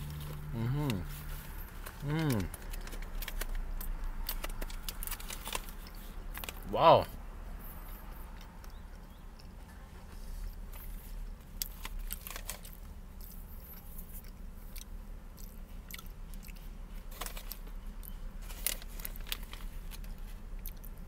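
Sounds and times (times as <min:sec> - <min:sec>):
person chewing crunchy food: 0:00.0 - 0:06.6, 0:10.7 - 0:21.0.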